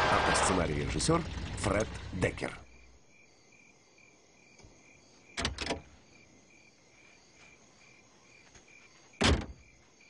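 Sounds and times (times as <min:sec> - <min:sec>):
crickets chirping: 0:00.6 - 0:10.0.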